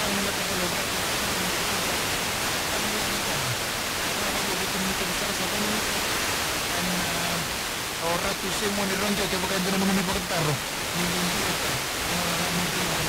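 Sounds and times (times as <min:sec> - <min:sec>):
faint broken radio station audio: 0:00.0 - 0:13.0
radio static hiss: 0:00.0 - 0:13.0.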